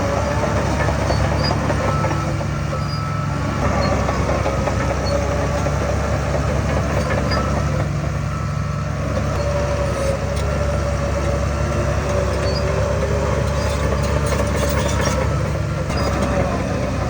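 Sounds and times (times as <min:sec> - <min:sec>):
heavy diesel machinery engine drone: 0:00.0 - 0:17.0.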